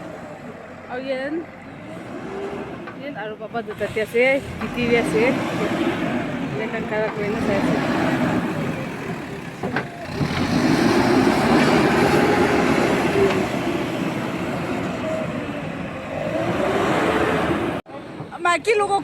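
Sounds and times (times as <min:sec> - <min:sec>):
vehicle engine running: 0:00.0 - 0:17.8.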